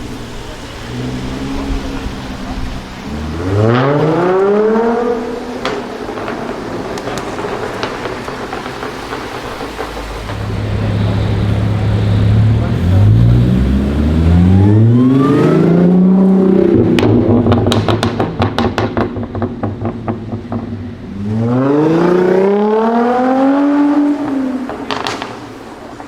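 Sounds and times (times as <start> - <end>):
car engine accelerating hard: 0.0 - 26.0
exhaust crackles and pops: 0.0 - 26.0.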